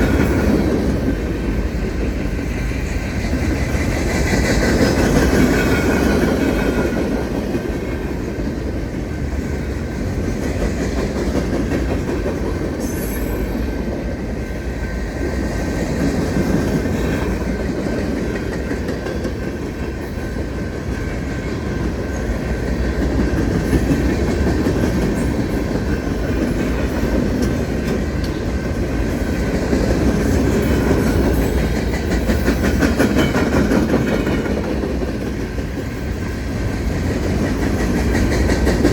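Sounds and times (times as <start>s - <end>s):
freight train wheels clicking on rails: 0.0s - 38.9s.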